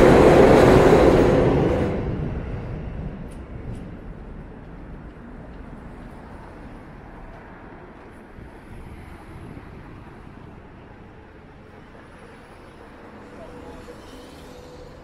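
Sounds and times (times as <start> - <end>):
street traffic rumble: 0.0 - 15.0
train rumbling on bridge: 0.0 - 15.0.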